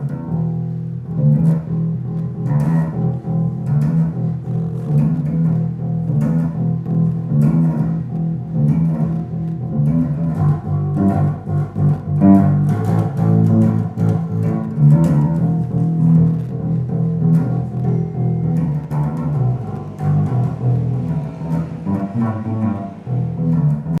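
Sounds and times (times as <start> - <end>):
deep hollow bass pattern: 0.0 - 24.0.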